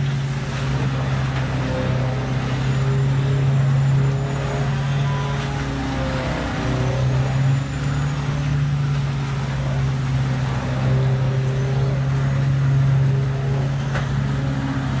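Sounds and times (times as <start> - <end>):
loader engine working: 0.0 - 15.0
tub grinder grinding brush: 0.0 - 15.0.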